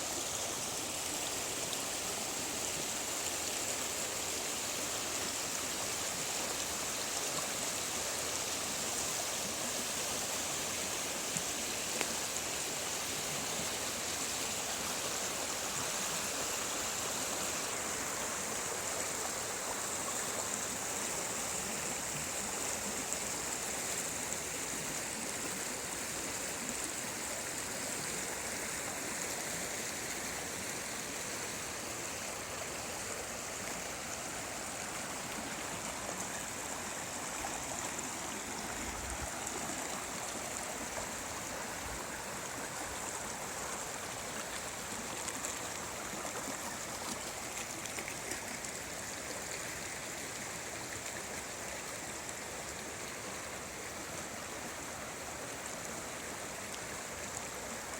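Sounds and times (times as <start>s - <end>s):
river rushing over rocks: 0.0s - 57.9s.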